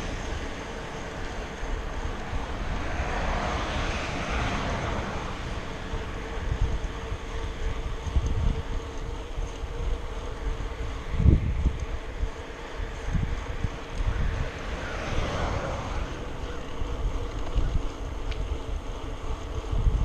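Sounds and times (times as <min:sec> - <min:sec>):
passing engine: 0:00.0 - 0:19.7
steady engine hum: 0:00.0 - 0:20.0
wind buffeting microphone: 0:00.0 - 0:20.0.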